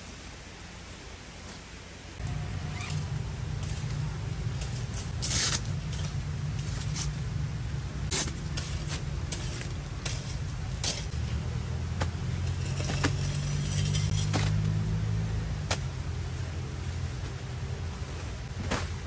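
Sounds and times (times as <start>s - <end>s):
low engine-like hum: 2.2s - 19.0s.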